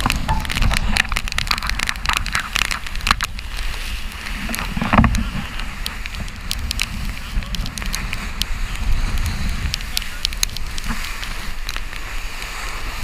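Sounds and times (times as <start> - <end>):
water rushing past hull: 0.0 - 13.0
wind buffeting microphone: 0.0 - 13.0
spray ticking on camera: 0.1 - 13.0.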